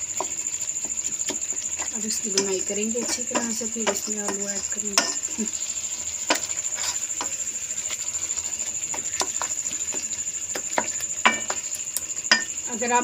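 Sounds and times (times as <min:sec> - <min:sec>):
meat frying sizzle: 0:00.0 - 0:13.0
spatula scraping and knocking a pan: 0:00.0 - 0:13.0.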